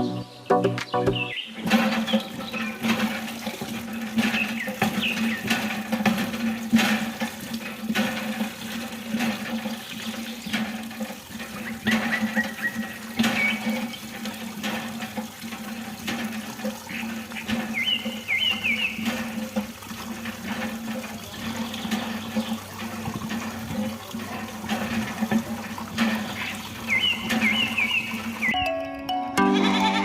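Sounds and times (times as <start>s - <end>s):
water running and splashing: 1.2s - 28.6s
low pump hum: 1.6s - 28.5s.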